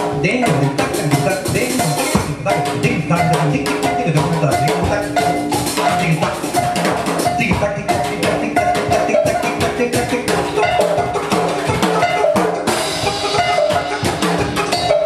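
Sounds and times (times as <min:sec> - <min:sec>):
congas playing: 0:00.0 - 0:15.0
drum kit: 0:00.0 - 0:15.0
guitar picking repeated notes: 0:00.0 - 0:15.0.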